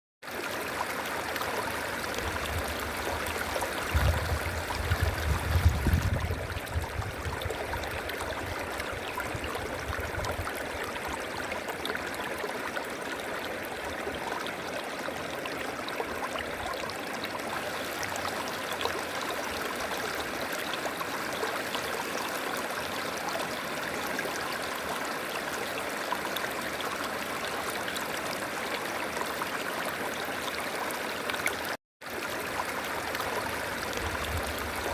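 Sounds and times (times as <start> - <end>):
river water flowing: 0.2 - 34.9.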